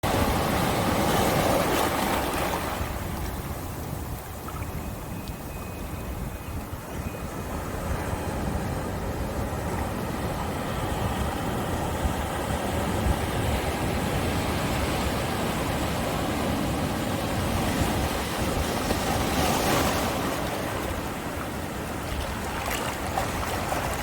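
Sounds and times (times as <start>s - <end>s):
ocean water rushing: 0.0s - 5.1s, 6.1s - 24.0s
wind buffeting microphone: 0.0s - 24.0s.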